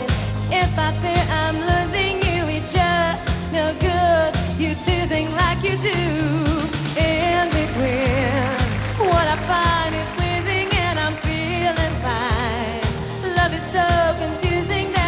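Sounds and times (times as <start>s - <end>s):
disco song with singer: 0.0s - 15.0s.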